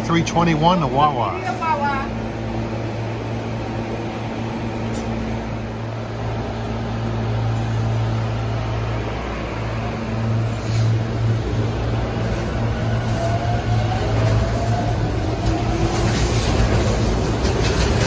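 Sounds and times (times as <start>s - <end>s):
railcar electrical hum: 0.0s - 18.0s.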